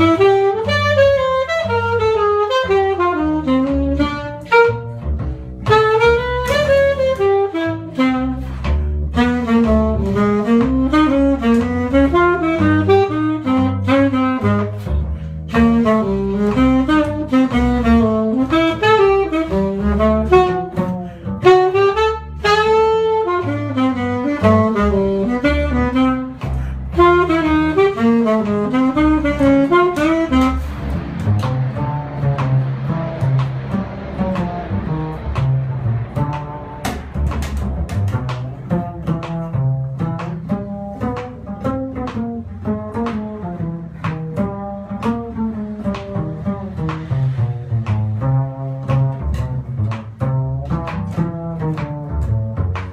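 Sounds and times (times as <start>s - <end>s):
solo jazz instrument arpeggios: 0.0s - 52.9s
walking bass backing: 0.0s - 52.9s.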